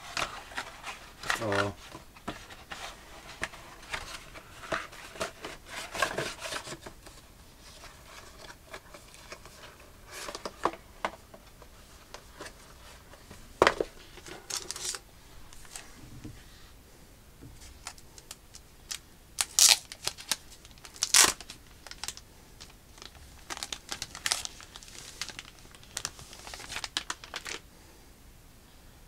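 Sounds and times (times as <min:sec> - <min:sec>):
cardboard and plastic rustling: 0:00.0 - 0:16.5, 0:17.4 - 0:27.6.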